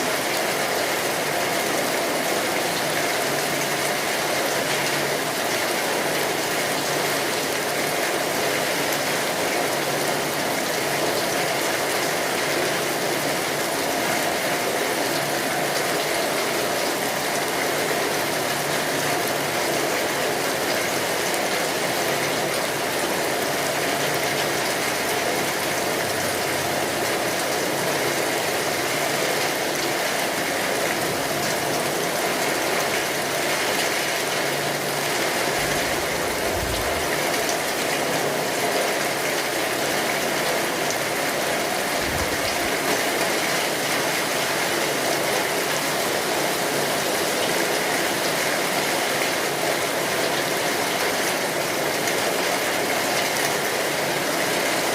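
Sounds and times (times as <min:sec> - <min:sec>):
rain drumming on a tin roof: 0:00.0 - 0:54.9.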